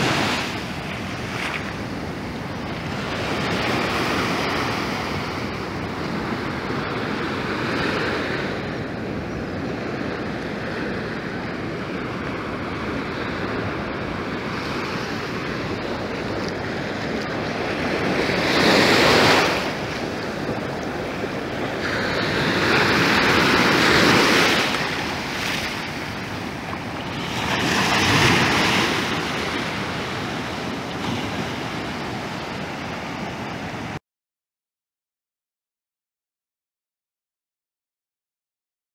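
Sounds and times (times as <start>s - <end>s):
ocean surf on sandy beach: 0.0s - 34.0s
waves breaking and rushing in: 0.0s - 34.0s.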